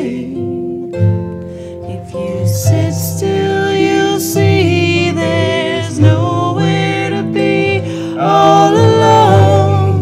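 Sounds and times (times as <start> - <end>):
voices singing: 0.0 - 1.2, 1.9 - 10.0
acoustic guitar: 0.0 - 10.0
electric harp: 0.0 - 10.0.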